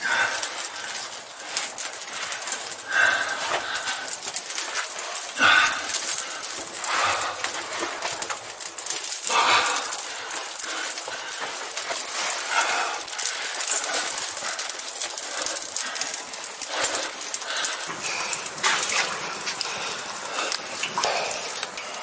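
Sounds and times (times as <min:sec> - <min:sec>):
hard breathing: 0:00.0 - 0:22.0
scraping over rock and gravel: 0:00.4 - 0:21.8.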